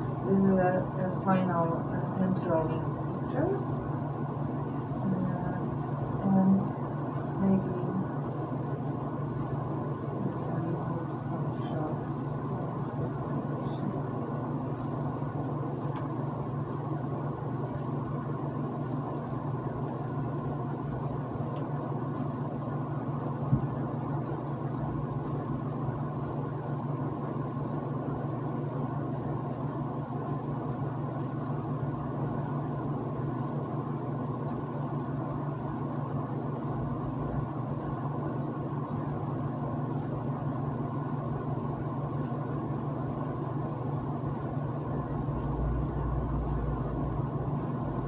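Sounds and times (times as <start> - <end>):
fan-like hum and hiss: 0.0 - 48.0.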